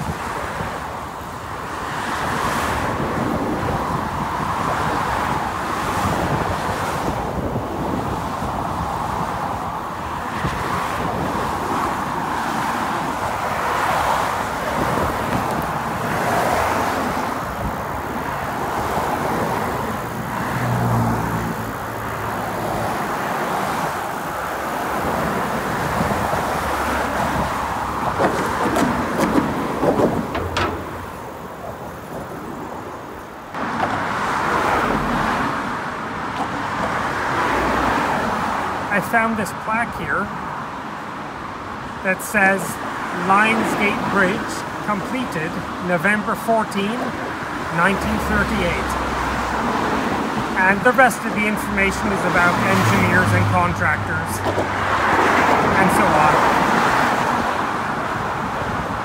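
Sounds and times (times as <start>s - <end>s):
cars passing by: 0.0s - 59.0s.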